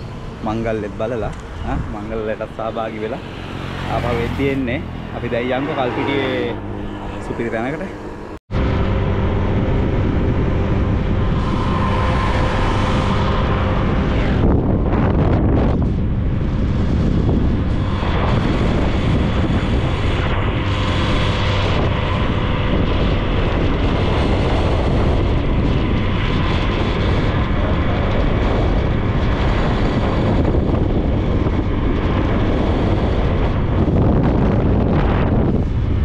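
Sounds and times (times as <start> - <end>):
motorbike engine and tyres: 0.0 - 36.0
wind on microphone: 0.0 - 36.0.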